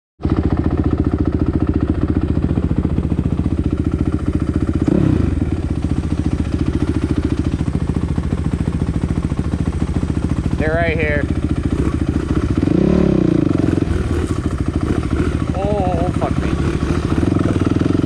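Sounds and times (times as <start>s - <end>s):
dirt bike engine idling: 0.2s - 18.0s.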